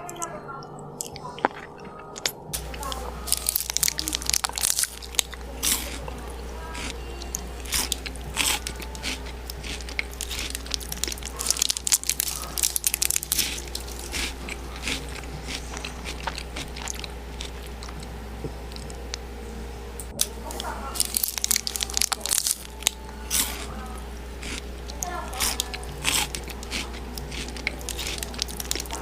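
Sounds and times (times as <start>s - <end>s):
steady low hum: 0.0s - 29.0s
person chewing crunchy food: 0.8s - 19.3s, 20.2s - 29.0s.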